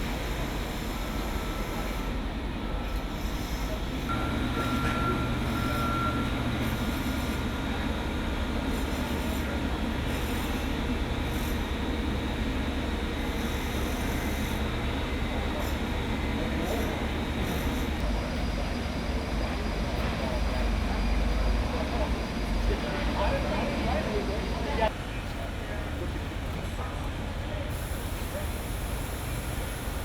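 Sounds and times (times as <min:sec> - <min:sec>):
mechanical rumble and hiss: 0:00.0 - 0:30.0.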